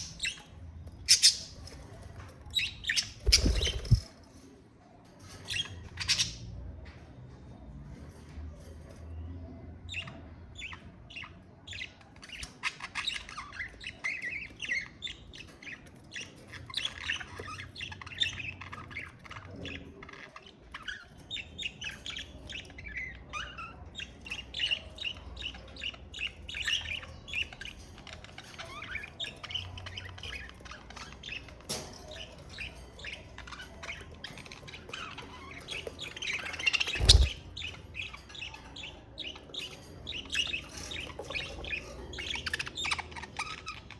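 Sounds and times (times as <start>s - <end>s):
budgerigars chattering and chirping: 0.0s - 4.1s, 5.4s - 6.6s, 9.9s - 43.9s.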